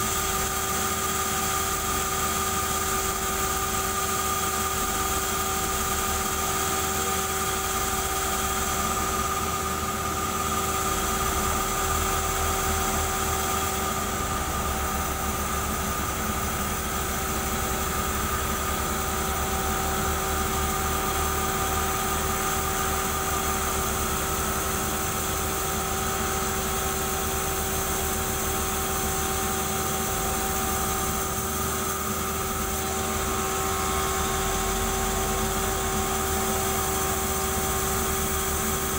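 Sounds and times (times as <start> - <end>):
sawmill machine hum and whine: 0.0 - 38.9.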